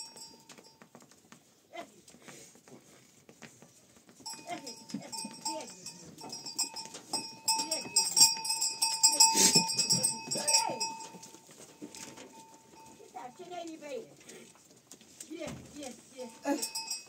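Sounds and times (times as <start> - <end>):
goat bells clanking: 0.0 - 2.1, 3.4 - 17.0.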